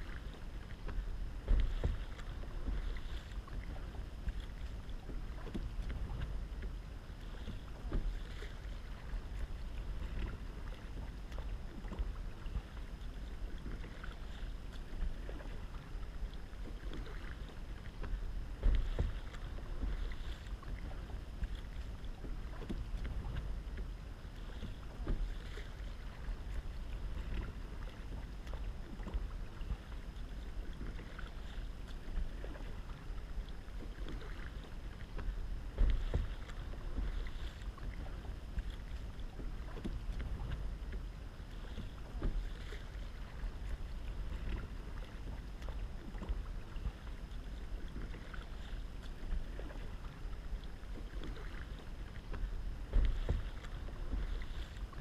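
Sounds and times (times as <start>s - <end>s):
paddle splashing in water: 0.0s - 55.0s.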